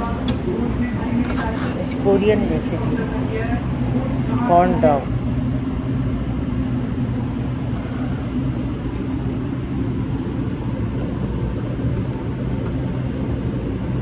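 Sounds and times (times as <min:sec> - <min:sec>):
steady low mechanical hum: 0:00.0 - 0:14.0.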